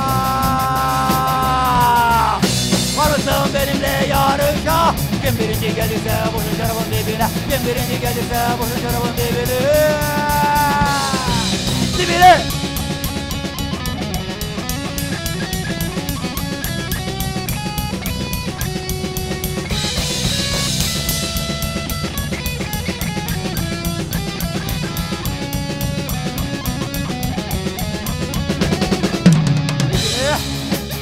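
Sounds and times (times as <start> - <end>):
bass guitar: 0.0 - 31.0
drum kit beat: 0.0 - 31.0
electric guitar: 0.0 - 31.0.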